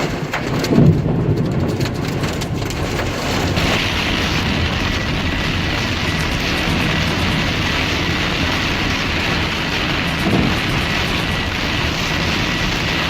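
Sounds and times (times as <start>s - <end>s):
road and rain noise in car: 0.0s - 13.0s.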